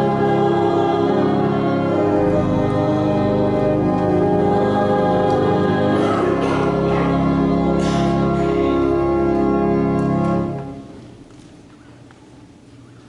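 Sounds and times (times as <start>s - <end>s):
church organ chords: 0.0s - 11.3s.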